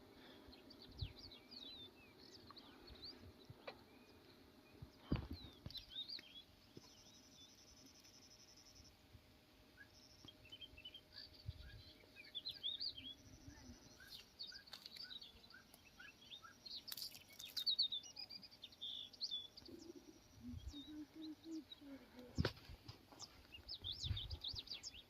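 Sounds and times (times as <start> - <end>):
birds chirping and singing: 0.2 - 8.0, 9.8 - 25.0.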